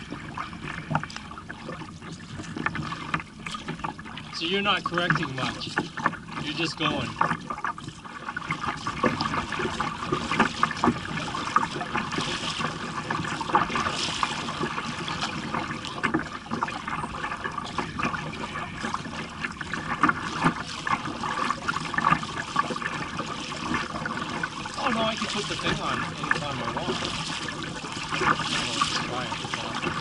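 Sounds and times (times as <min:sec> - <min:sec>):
water splashing against kayak hull: 0:00.0 - 0:30.0.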